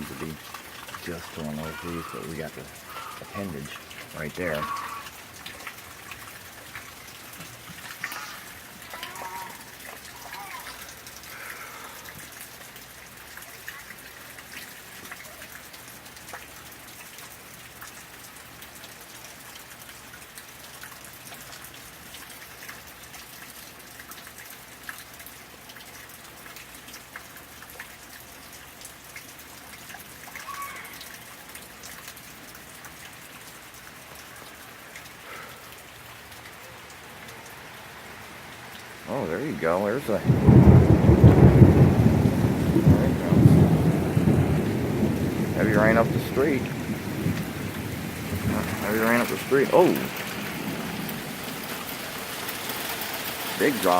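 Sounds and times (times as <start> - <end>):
rain falling: 0.0 - 53.9
raindrops ticking on surfaces: 0.0 - 53.9.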